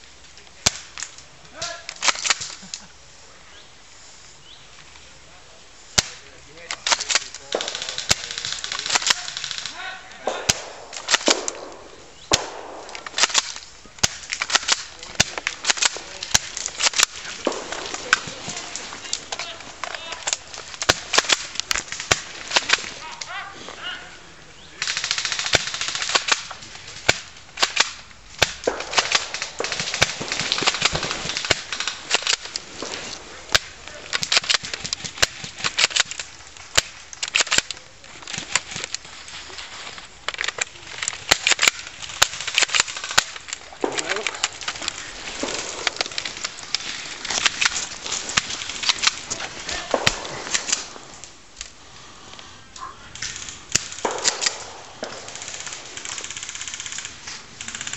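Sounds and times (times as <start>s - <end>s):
airsoft guns firing: 6.0s - 23.5s, 24.8s - 39.1s, 40.3s - 51.4s, 53.1s - 57.9s.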